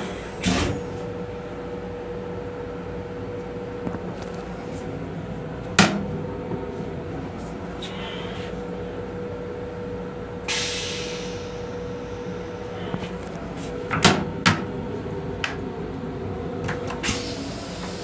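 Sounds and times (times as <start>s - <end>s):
railcar hum and rumble: 0.0s - 18.0s.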